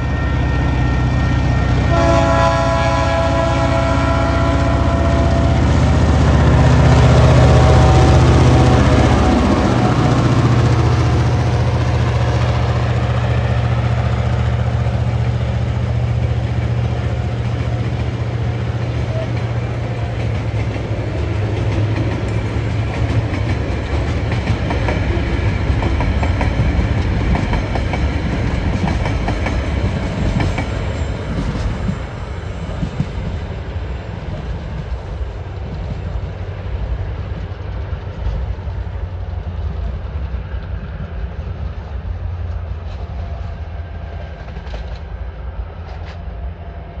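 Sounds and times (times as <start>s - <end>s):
low train drone: 0.0s - 47.0s
train wheels clicking over rail joints: 6.2s - 46.7s.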